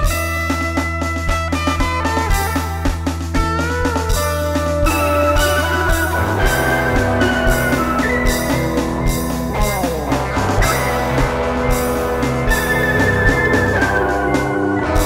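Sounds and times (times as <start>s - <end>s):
drum beat: 0.0s - 15.0s
electric guitar lead notes: 0.0s - 15.0s
keyboard: 0.0s - 15.0s.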